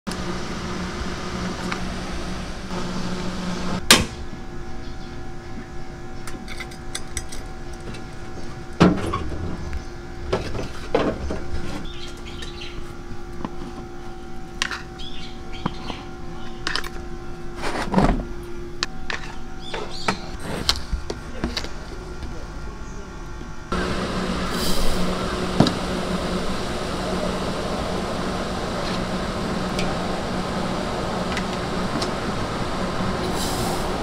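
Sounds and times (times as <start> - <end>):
cotton candy machine humming: 0.1 - 23.0, 23.6 - 34.0.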